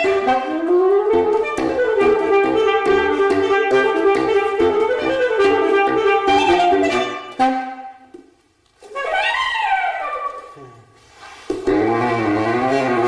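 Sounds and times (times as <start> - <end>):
saxophone with band: 0.0 - 13.0.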